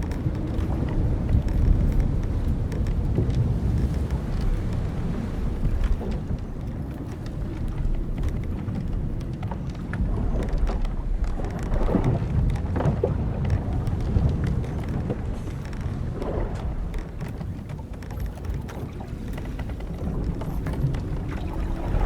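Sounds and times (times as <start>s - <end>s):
sea washing: 0.0s - 22.0s
wind: 0.0s - 22.0s
wooden ship hull creaking: 0.0s - 22.0s.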